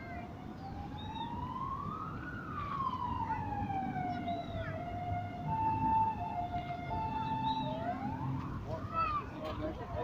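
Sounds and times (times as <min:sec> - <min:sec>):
siren wailing: 0:00.3 - 0:08.6.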